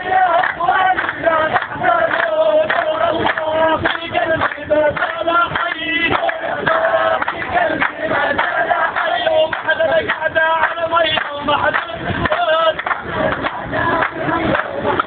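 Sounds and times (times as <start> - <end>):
men singing in unison: 0.0 - 15.0.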